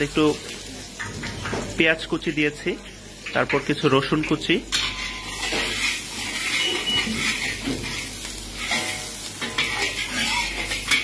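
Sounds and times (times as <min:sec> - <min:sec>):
onion and garlic sizzling in oil: 0:00.0 - 0:11.0.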